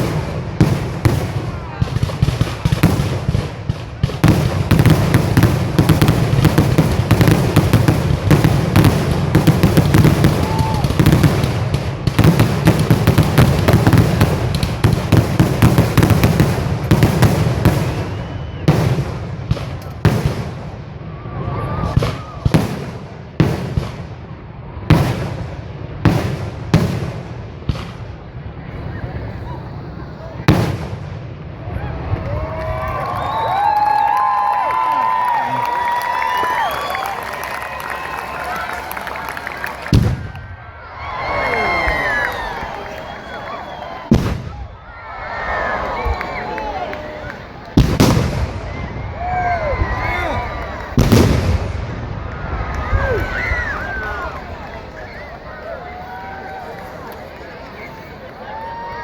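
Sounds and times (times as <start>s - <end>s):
fireworks exploding: 0.0s - 58.8s.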